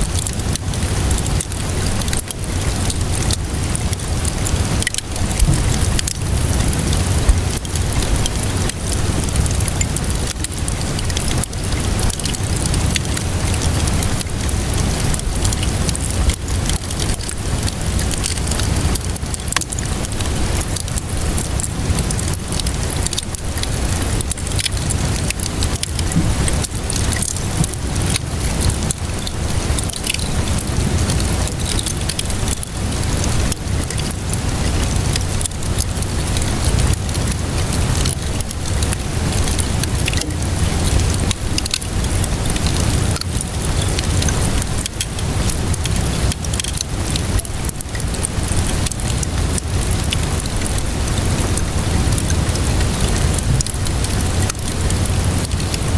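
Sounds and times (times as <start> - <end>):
fireplace crackling and popping: 0.0 - 55.8
steady rainfall: 0.0 - 55.9.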